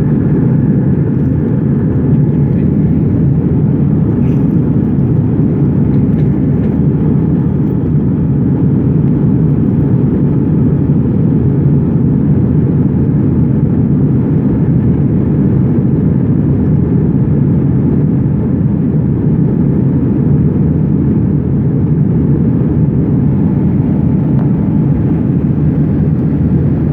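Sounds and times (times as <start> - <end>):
airliner cabin engine rush: 0.0 - 26.9.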